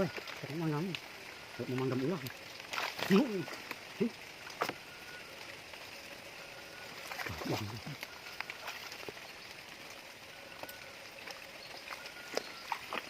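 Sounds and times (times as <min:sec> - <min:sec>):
rain and stream water hissing: 0:00.0 - 0:13.0
small splashes and clicks: 0:00.0 - 0:13.0.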